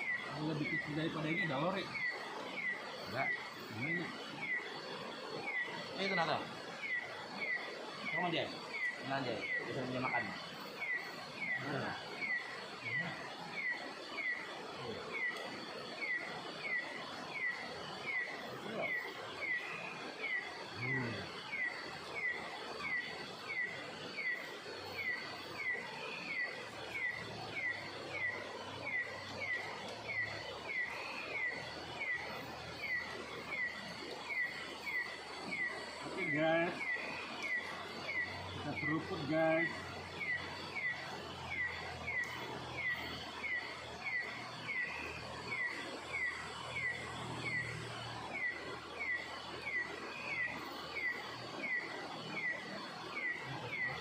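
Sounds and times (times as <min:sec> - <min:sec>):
bird calling: 0:00.0 - 0:54.0
faint high whine: 0:00.0 - 0:54.0.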